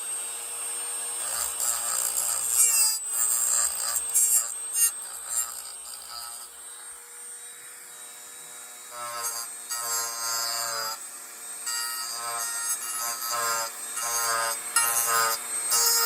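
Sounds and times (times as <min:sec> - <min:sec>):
rotary tool carving wood: 0:00.0 - 0:16.0.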